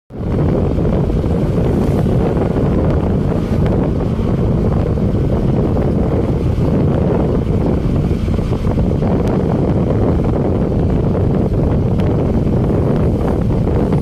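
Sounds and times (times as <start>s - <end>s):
motorcycle running: 0.1s - 14.0s
wind buffeting microphone: 0.1s - 14.0s.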